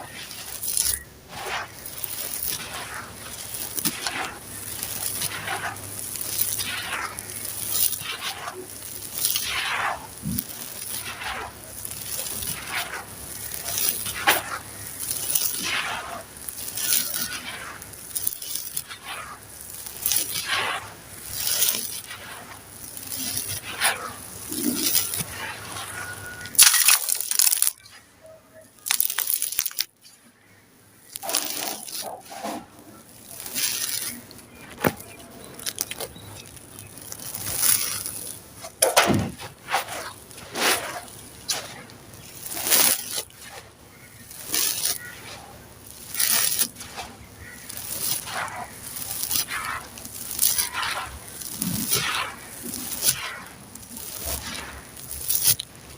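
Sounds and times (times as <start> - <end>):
sand-cement crumbling and crunching: 0.0 - 55.9.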